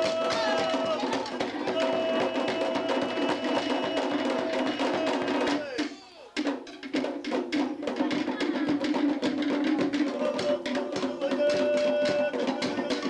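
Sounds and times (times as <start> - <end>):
rapid wooden drum strikes: 0.0 - 13.0.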